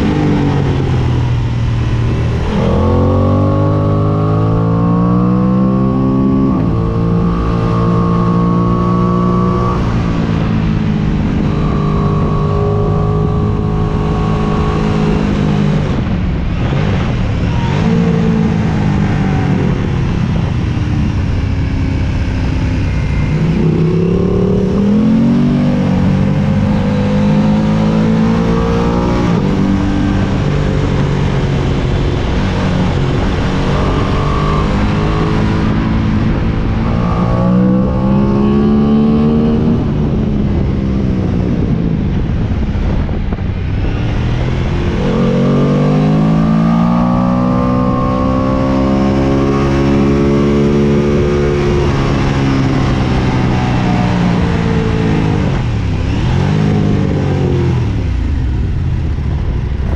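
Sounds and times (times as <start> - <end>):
motorbike engine revving: 0.0 - 59.9
wind rushing over microphone: 0.0 - 59.9.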